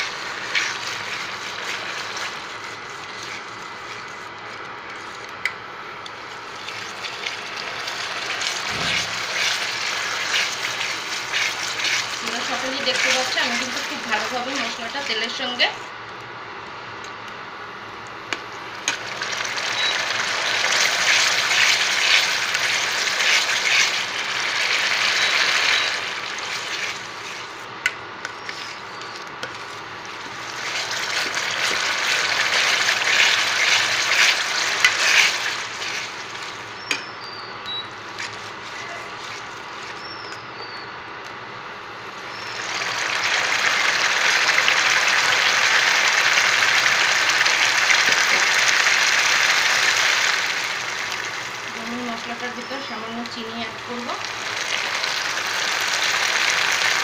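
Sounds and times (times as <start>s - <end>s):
spice paste sizzling in hot oil: 0.0s - 15.6s, 18.7s - 37.0s, 42.1s - 57.0s.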